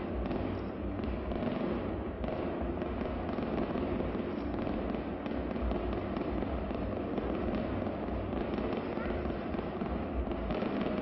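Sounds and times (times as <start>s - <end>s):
distant fireworks rumble and crackle: 0.0s - 11.0s.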